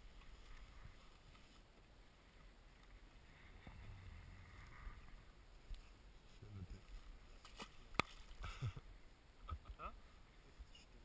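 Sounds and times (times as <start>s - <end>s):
faint low rumble: 0.0s - 11.0s.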